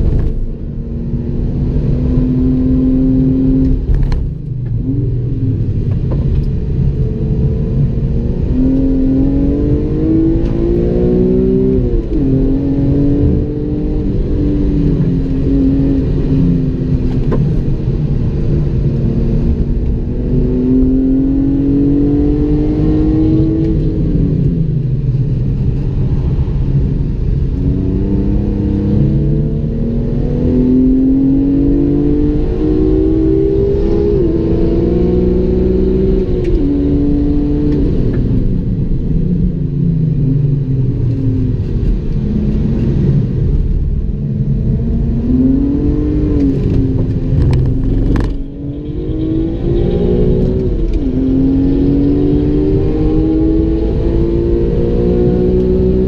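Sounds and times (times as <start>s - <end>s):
car engine accelerating: 0.0s - 56.0s
tyre and road rumble: 0.0s - 56.0s.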